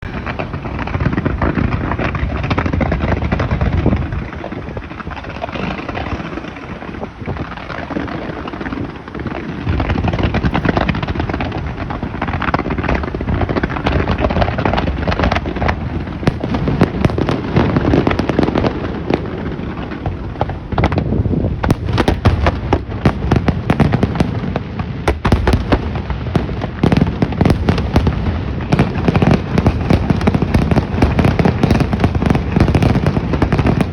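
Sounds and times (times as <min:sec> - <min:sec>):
fireworks booming: 0:00.0 - 0:33.9
fireworks crackling: 0:00.0 - 0:33.9.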